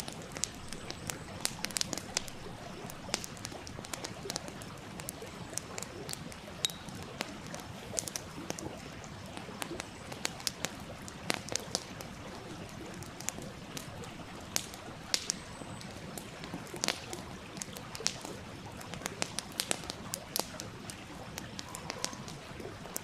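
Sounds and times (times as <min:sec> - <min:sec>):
flowing stream: 0:00.0 - 0:23.0
wood fire crackling: 0:00.0 - 0:23.0.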